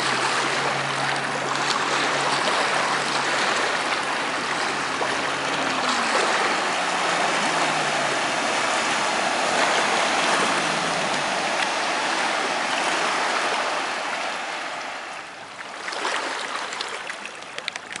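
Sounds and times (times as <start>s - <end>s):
rush of spray off boat hull: 0.0s - 17.1s
faint boat engine drone: 0.0s - 18.0s.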